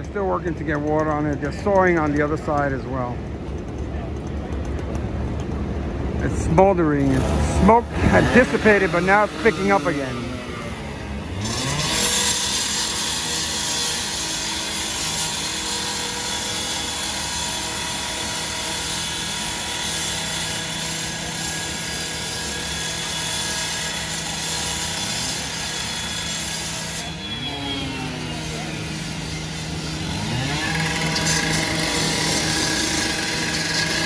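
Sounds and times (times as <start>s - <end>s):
power saw cutting steel: 6.2s - 34.0s.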